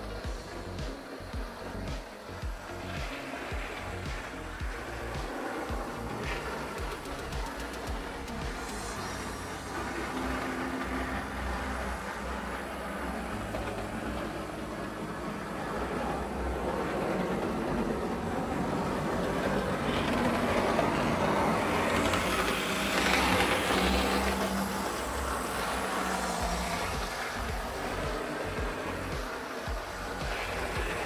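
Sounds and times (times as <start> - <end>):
model train motor running: 0.0 - 31.0.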